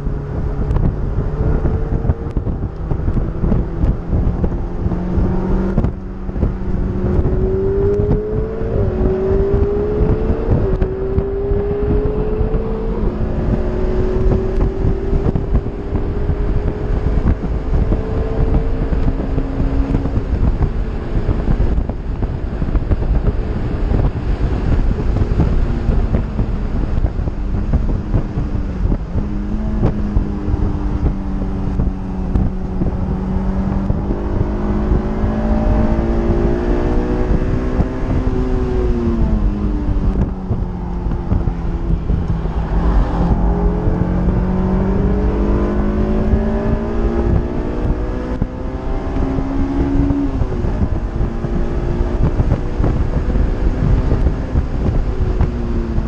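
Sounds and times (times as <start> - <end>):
car engine accelerating hard: 0.0 - 56.0
wind buffeting microphone: 0.0 - 56.0.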